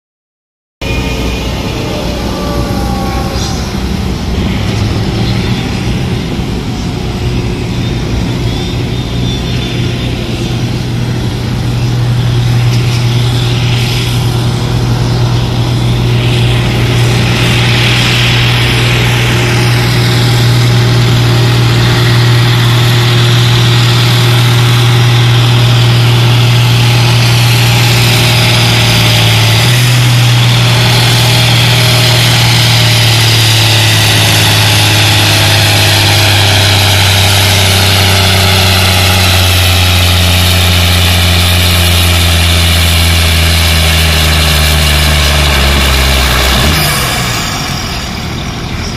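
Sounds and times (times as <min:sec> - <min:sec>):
tractor diesel engine under load: 0:00.8 - 0:48.9.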